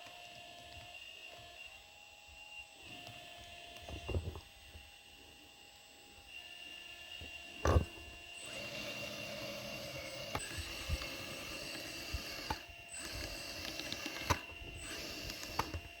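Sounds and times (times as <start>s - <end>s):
hydraulic pump high whine: 0.0s - 16.0s.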